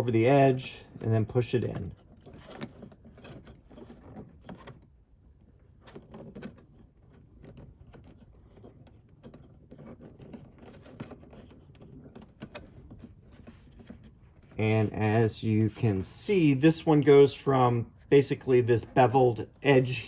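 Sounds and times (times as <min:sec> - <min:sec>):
light clicks and rubbing: 0:00.0 - 0:20.0.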